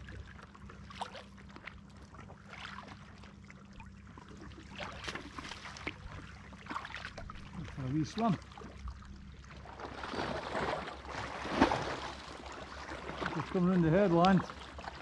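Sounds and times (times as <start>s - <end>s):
low steady hum: 0.0s - 15.0s
paddle dipping into water: 0.0s - 15.0s
water splashes and drips: 0.0s - 15.0s.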